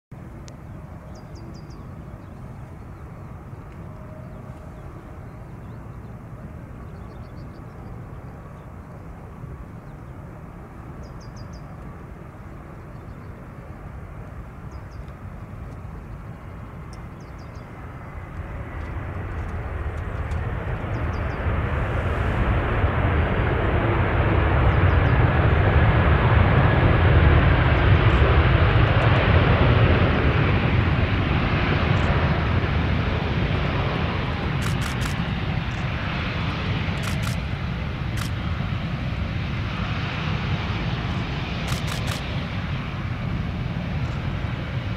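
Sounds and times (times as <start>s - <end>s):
jet engines rushing: 0.2s - 44.9s.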